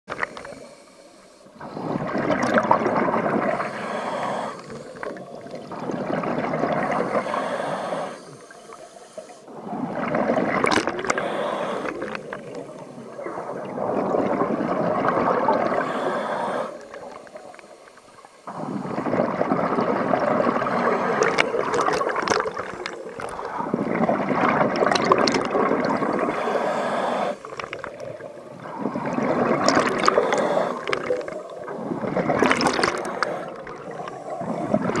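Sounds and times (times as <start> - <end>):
diver breathing through regulator: 0.2 - 5.4, 6.6 - 14.3, 15.5 - 24.0, 25.2 - 35.0
bubbles gurgling underwater: 1.6 - 3.7, 4.6 - 7.4, 9.5 - 16.1, 16.8 - 26.5, 27.3 - 35.0.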